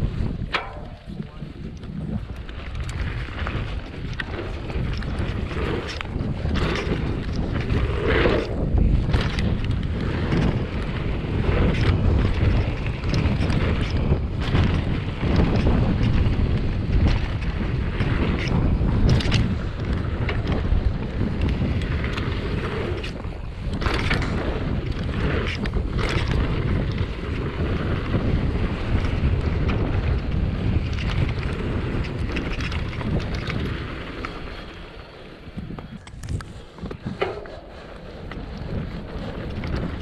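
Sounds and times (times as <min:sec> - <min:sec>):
bike knocking and rattling: 0:00.0 - 0:40.0
tyre rumble on dirt trail: 0:00.0 - 0:40.0
wind buffeting microphone: 0:00.0 - 0:40.0.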